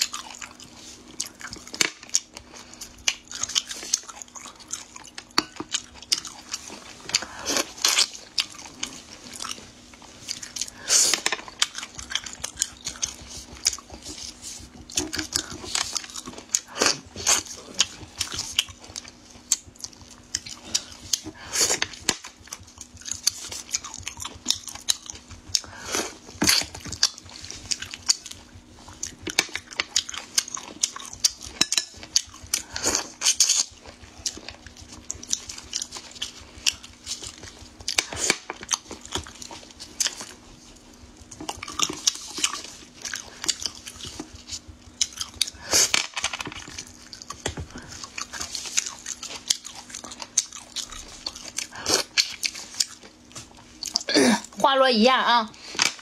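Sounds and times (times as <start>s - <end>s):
crunchy chewing and mouth sounds: 0.0s - 54.6s.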